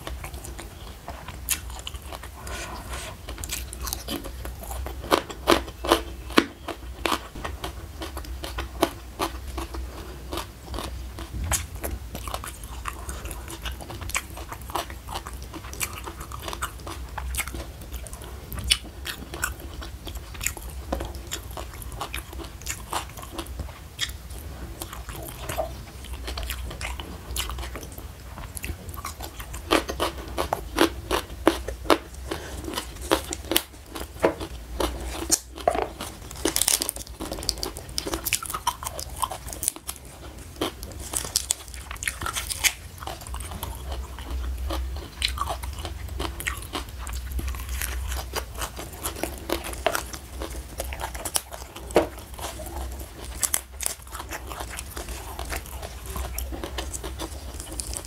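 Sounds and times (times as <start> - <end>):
person crunching and chewing: 0.0 - 58.0.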